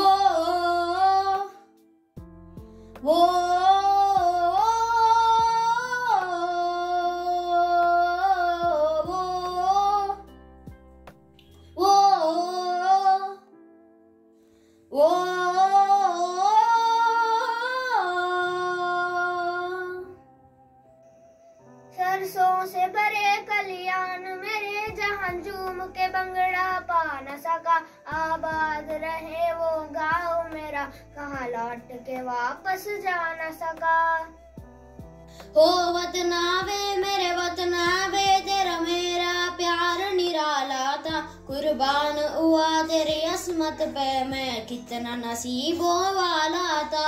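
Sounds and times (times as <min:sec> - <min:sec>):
child singing wordless melody: 0:00.0 - 0:01.8, 0:02.7 - 0:10.4, 0:11.5 - 0:13.6, 0:14.9 - 0:20.2, 0:21.1 - 0:47.0
quiet backing track: 0:00.0 - 0:47.0.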